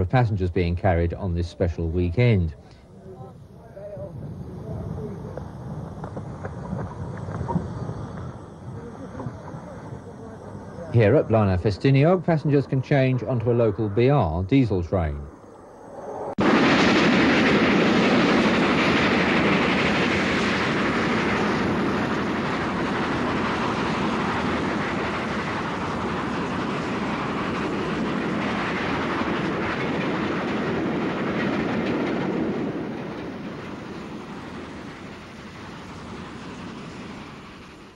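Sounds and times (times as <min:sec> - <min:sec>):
train running on rails: 0:00.0 - 0:15.6, 0:16.4 - 0:37.9.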